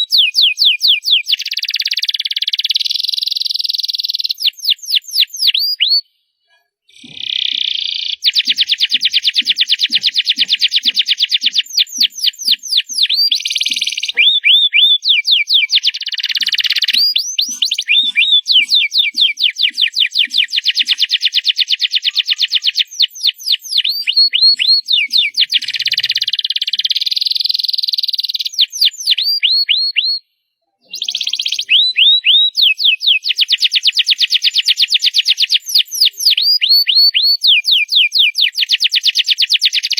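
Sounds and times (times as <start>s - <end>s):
canary singing trills: 0.0s - 6.1s, 6.9s - 30.2s, 30.8s - 39.9s.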